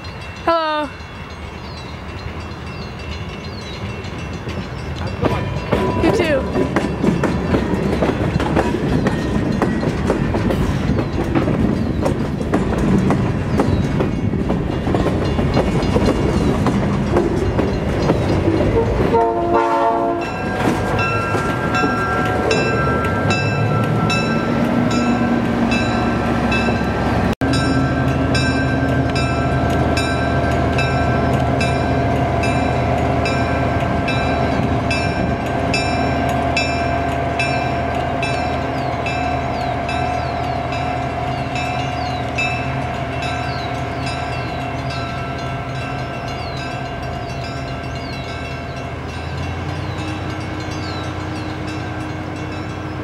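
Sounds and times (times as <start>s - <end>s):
crossing bell ringing: 0.0s - 53.0s
diesel locomotive engine: 0.0s - 53.0s
train wheels clattering on rails: 1.7s - 53.0s.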